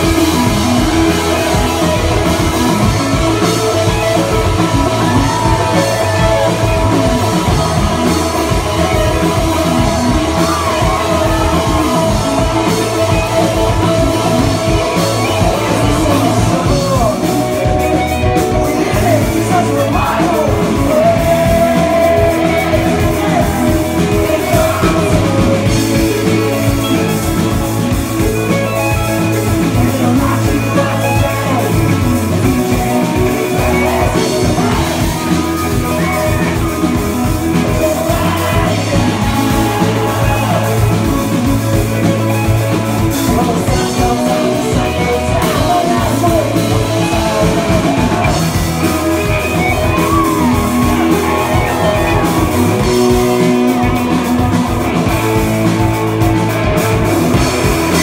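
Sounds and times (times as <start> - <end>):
bass guitar: 0.0 - 58.0
drum kit: 0.0 - 58.0
electric guitars: 0.0 - 58.0
lead singer singing: 0.0 - 58.0.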